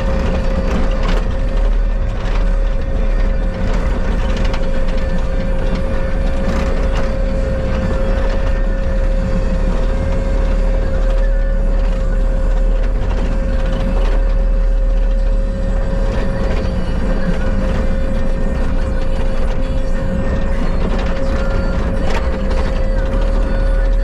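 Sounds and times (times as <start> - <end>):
high whine: 0.0 - 24.0
skid steer engine running: 0.0 - 24.0.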